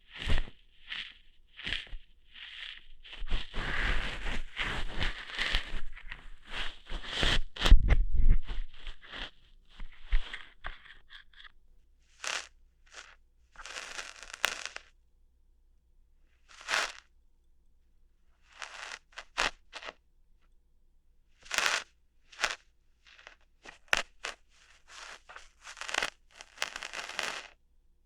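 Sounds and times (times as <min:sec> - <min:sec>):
ear hair plucking crackles: 0:00.0 - 0:11.4, 0:12.1 - 0:14.9, 0:16.5 - 0:17.1, 0:18.4 - 0:20.0, 0:21.4 - 0:27.6
scratchy rustle: 0:00.0 - 0:11.5, 0:12.1 - 0:14.9, 0:16.4 - 0:17.1, 0:18.4 - 0:20.0, 0:21.4 - 0:27.6.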